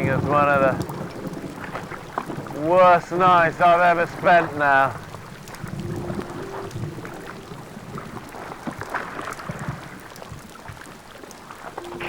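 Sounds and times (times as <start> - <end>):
wind on microphone: 0.0 - 11.0
water lapping against raft: 0.0 - 12.0.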